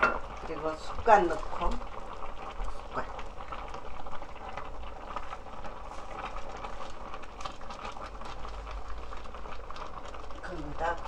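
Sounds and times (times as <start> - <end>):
stew bubbling and crackling: 0.0 - 11.0.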